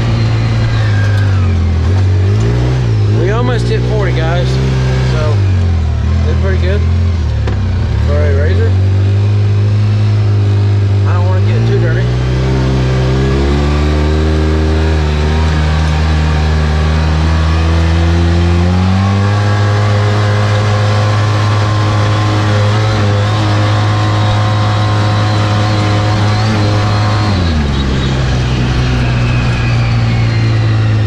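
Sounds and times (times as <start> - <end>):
engine running hard: 0.0 - 31.0.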